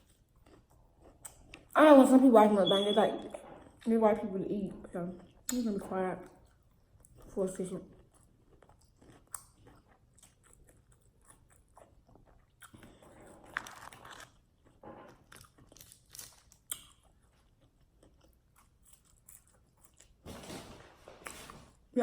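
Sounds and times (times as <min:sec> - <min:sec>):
chewing and crunching food: 0:00.0 - 0:02.5, 0:03.1 - 0:22.0.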